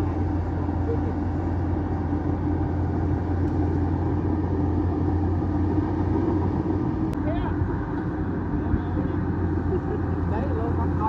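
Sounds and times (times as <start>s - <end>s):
bulldozer diesel engine drone: 0.0s - 11.0s.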